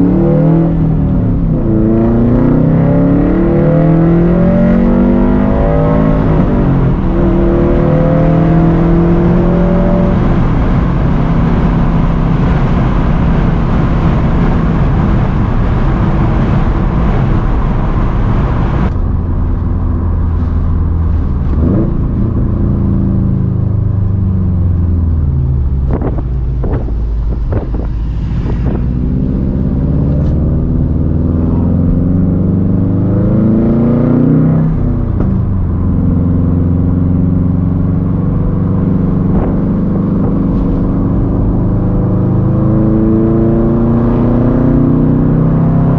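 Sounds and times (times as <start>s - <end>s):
car engine accelerating through gears: 0.0s - 45.9s.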